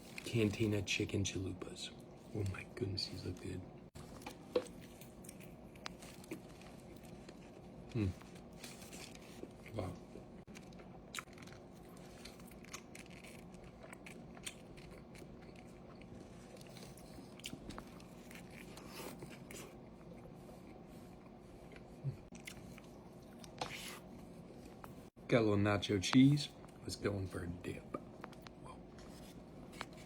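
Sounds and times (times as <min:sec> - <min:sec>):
chewing and crunching food: 0:00.0 - 0:25.1, 0:26.0 - 0:30.0
steady low hum: 0:00.0 - 0:30.0.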